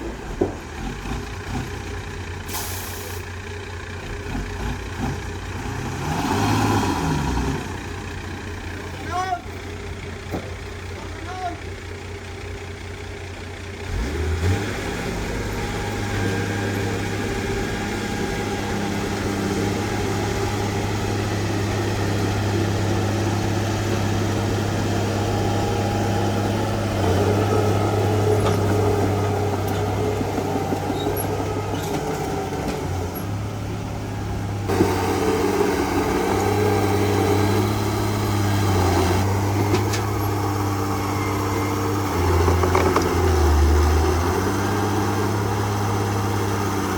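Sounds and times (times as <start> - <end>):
heavy diesel engine droning: 0.0 - 46.9.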